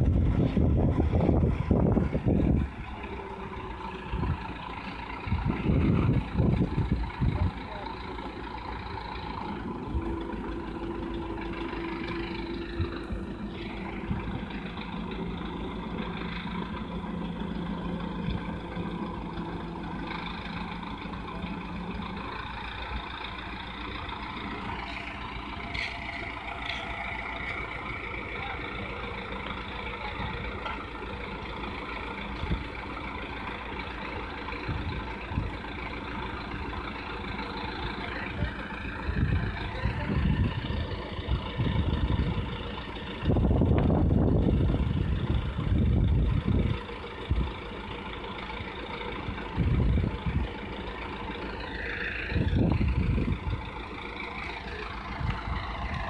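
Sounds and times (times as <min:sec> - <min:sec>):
steady whine: 0:00.0 - 0:56.0
tractor diesel engine running: 0:00.0 - 0:56.0.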